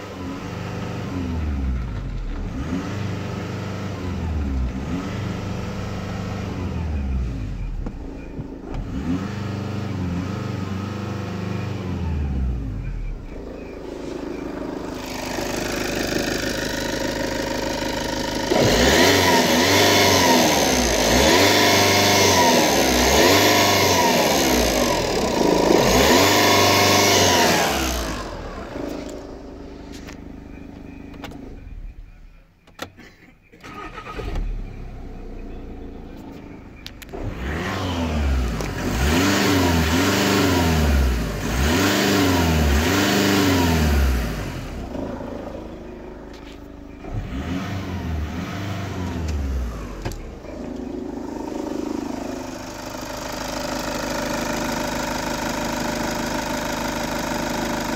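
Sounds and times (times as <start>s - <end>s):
diesel engine revving: 0.0s - 32.4s, 33.6s - 57.9s.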